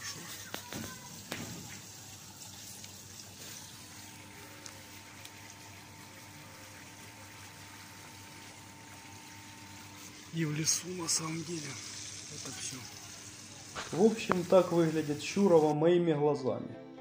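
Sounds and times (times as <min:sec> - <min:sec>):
fountain water splashing: 0:00.0 - 0:15.7.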